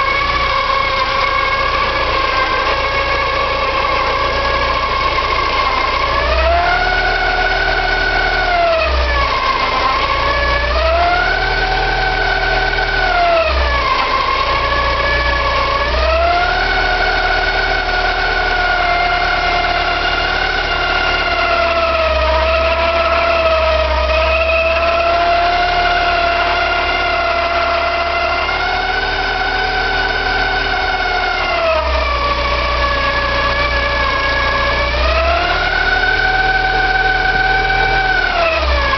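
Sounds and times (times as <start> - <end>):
car engine running: 0.0 - 38.9
whining squeal: 0.0 - 38.9.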